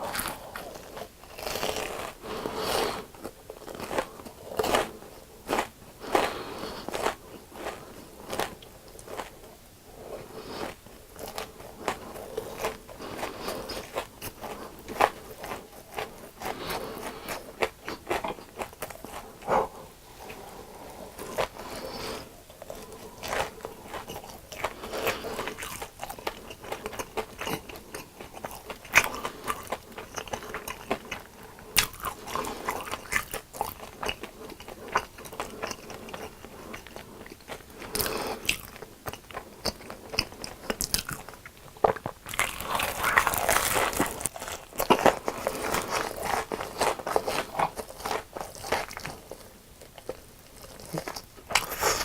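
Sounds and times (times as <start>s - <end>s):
crunchy food crunching: 0.0s - 52.0s
wet chewing: 0.0s - 52.0s.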